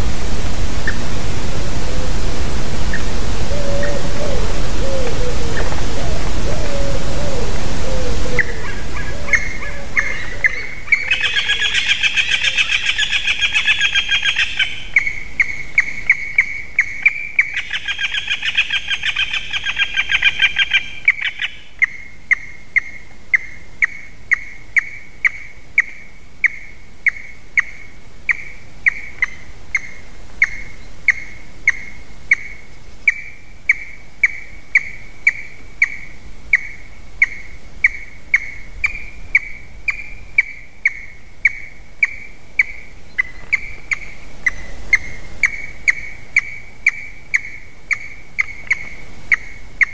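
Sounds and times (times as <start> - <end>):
eaglet calling: 2.8 - 49.9
rapid trilled calls: 2.8 - 49.9.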